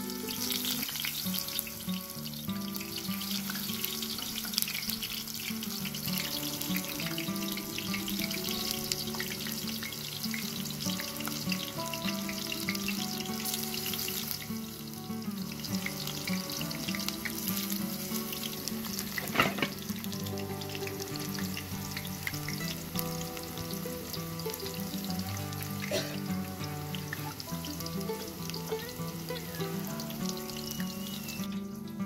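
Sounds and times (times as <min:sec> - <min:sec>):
background music: 0:00.0 - 0:32.0
eggplant sizzling in hot oil: 0:00.0 - 0:32.0.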